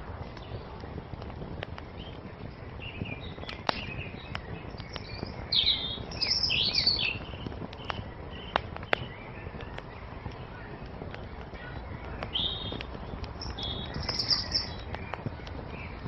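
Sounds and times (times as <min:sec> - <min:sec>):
wood fire crackling: 0:00.0 - 0:16.0
small birds chirping: 0:00.1 - 0:16.0.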